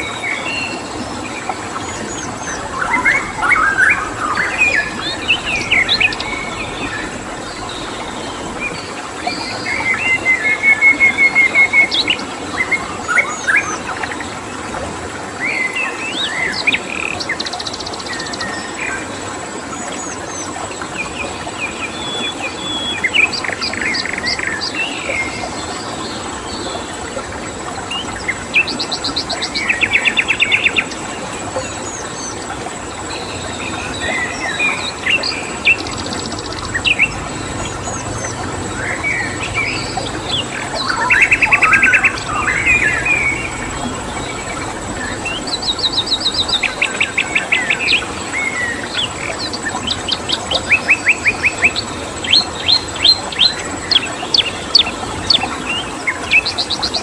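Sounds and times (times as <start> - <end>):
flowing water: 0.0 - 57.0
songbirds chirping and trilling: 0.7 - 14.8, 15.4 - 26.8, 28.0 - 57.0.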